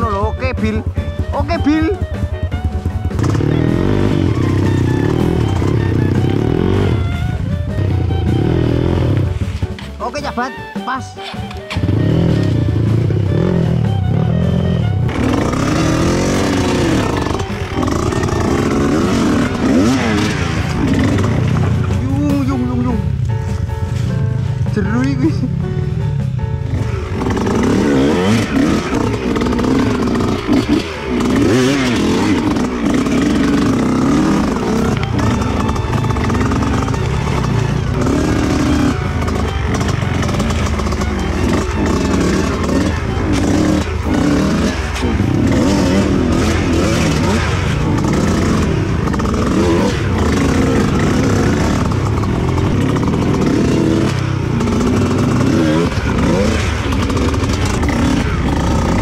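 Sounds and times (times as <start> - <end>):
two-stroke dirt bike engine revving: 0.0 - 24.0, 24.8 - 59.0.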